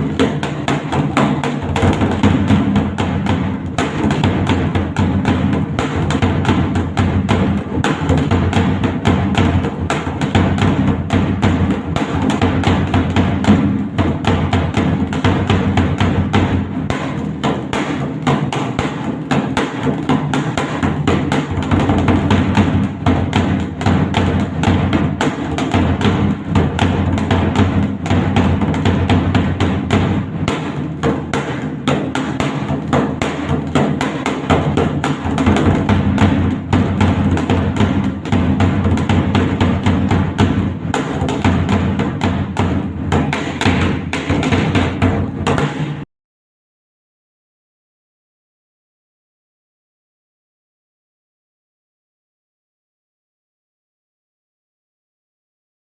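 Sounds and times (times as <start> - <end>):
barrel drum beaten with sticks: 0.0 - 46.1.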